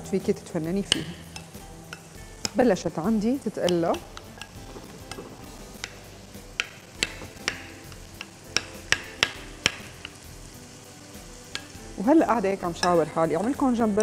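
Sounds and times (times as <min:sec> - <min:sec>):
faint sizzle of frying vegetables: 0:00.0 - 0:14.0.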